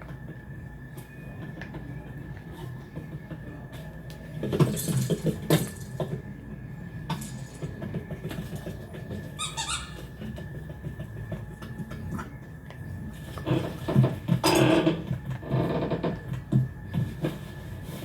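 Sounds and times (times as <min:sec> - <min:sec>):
machine hum with high tone: 0:00.0 - 0:18.0.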